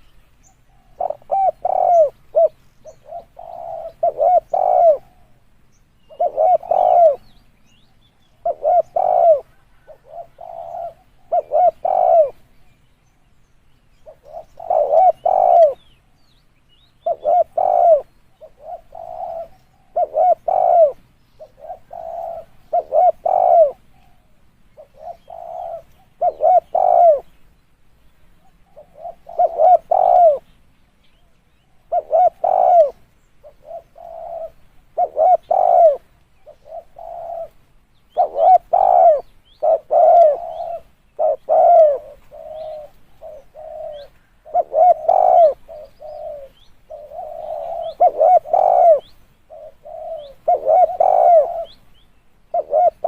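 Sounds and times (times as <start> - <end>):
dove cooing: 0.6 - 7.4, 8.0 - 12.5, 14.0 - 16.0, 17.0 - 27.4, 28.4 - 30.6, 31.6 - 51.8, 52.5 - 53.0.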